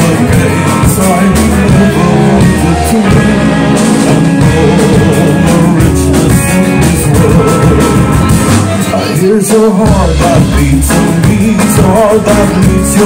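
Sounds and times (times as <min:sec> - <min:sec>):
drum kit: 0:00.0 - 0:13.0
live rock band playing: 0:00.0 - 0:13.0
upright double bass: 0:00.0 - 0:13.0.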